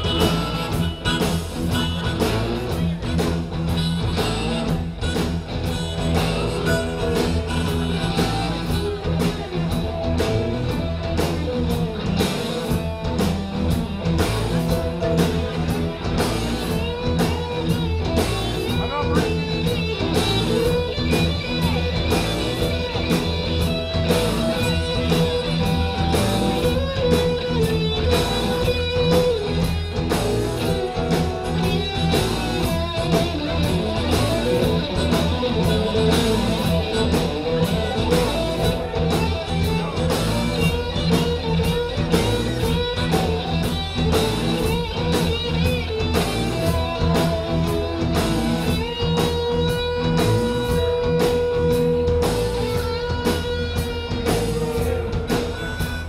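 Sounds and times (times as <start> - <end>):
bass guitar: 0.0 - 56.0
electric guitar lead: 0.0 - 56.0
steady drum beat: 0.0 - 56.0.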